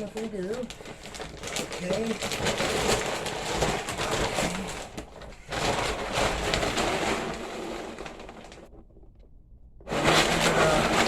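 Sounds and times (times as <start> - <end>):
dry kibble rattling in container: 0.0 - 8.8, 9.9 - 11.0.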